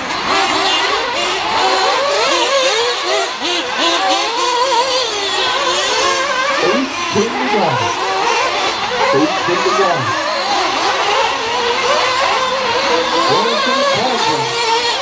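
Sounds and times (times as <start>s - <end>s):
rc car engines revving: 0.0s - 15.0s.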